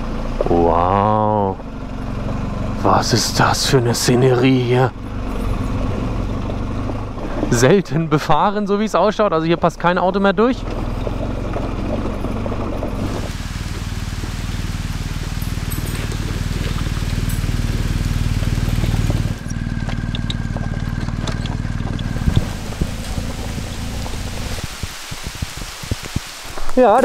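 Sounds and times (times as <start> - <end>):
motorcycle engine at low revs: 0.0 - 8.2, 8.9 - 26.7.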